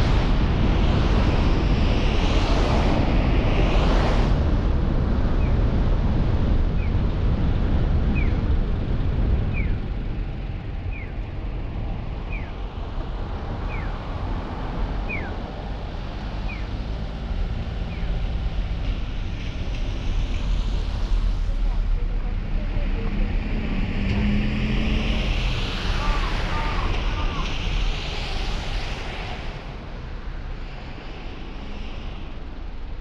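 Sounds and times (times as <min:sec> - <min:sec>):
car road and wind noise: 0:00.0 - 0:33.0.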